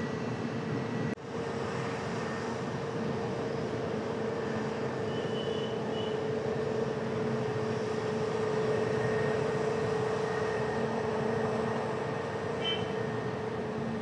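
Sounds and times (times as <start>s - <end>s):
jet engines droning: 0.0s - 14.0s.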